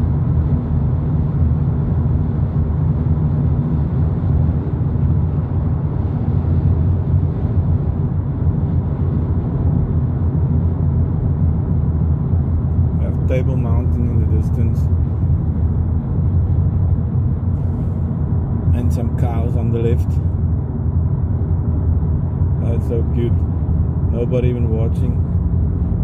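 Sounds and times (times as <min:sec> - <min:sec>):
car engine rumble: 0:00.0 - 0:26.0.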